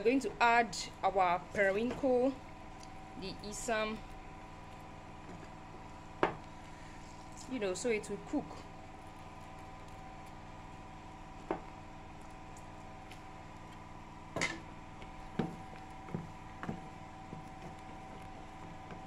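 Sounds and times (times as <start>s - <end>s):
steady low hum: 0.0s - 19.0s
wooden spoon stirring in metal pot: 0.1s - 13.9s, 14.7s - 19.0s.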